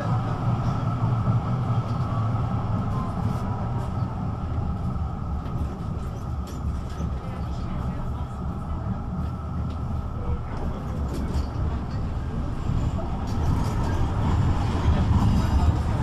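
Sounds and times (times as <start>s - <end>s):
tram wheels rumbling: 0.0s - 16.0s.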